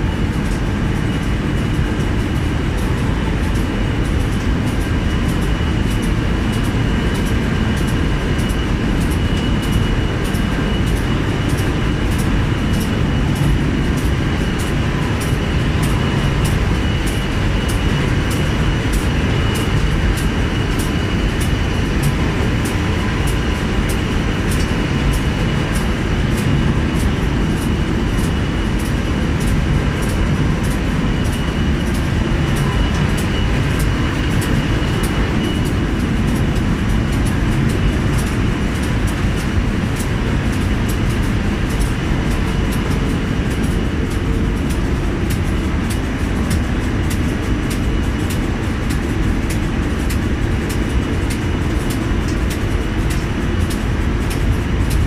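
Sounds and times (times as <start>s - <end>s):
faint regular ticking: 0.3s - 55.0s.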